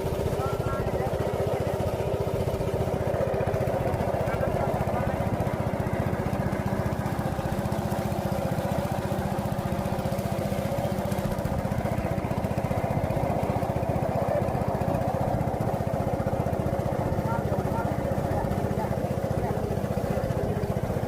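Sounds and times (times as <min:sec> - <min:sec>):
small engine chugging: 0:00.0 - 0:21.0.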